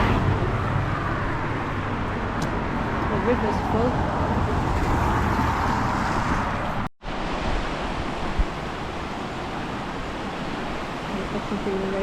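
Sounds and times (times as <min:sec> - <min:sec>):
river rushing: 0:00.0 - 0:12.0
wind rumbling on microphone: 0:00.0 - 0:12.0.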